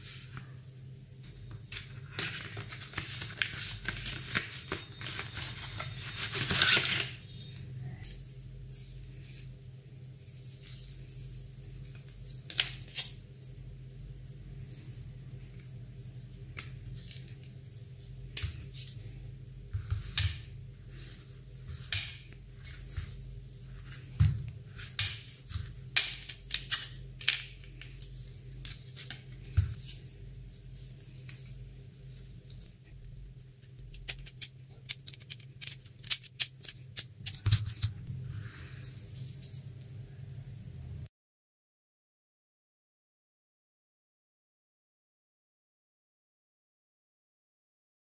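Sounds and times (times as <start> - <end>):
steady low hum: 0.0 - 6.5, 7.1 - 41.1.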